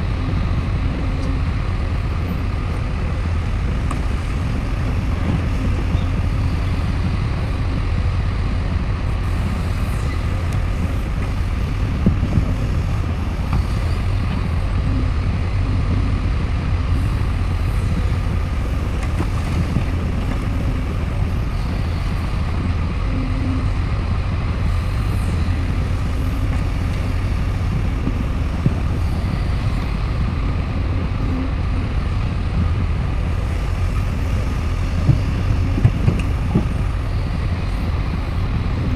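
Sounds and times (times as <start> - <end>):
heavy diesel engines rumbling: 0.0 - 38.9.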